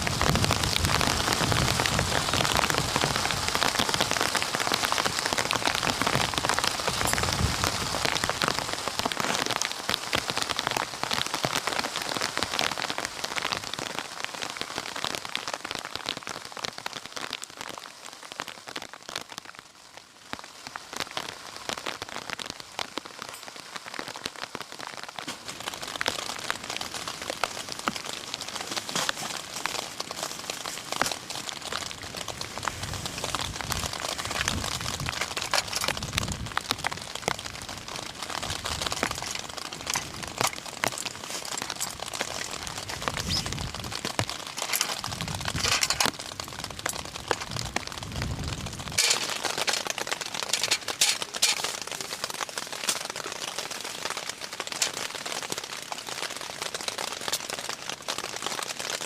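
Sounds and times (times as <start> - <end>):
rain pattering on a tent: 0.0 - 59.0.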